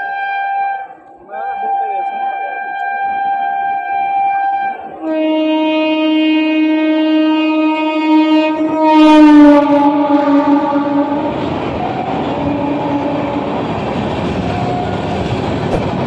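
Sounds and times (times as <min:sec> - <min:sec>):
locomotive horn: 0:00.0 - 0:15.3
passing train rumble: 0:00.0 - 0:16.0.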